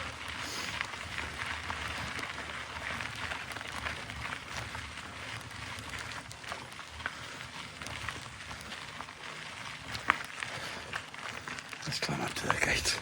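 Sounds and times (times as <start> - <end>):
bike clicks and rattles: 0.0 - 13.0
bike tyres crackling on dirt: 0.0 - 13.0.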